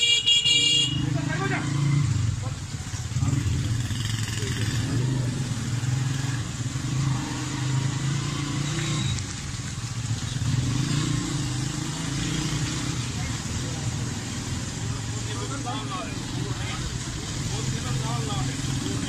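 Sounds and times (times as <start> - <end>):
motorcycle engines riding slowly: 0.0 - 19.0.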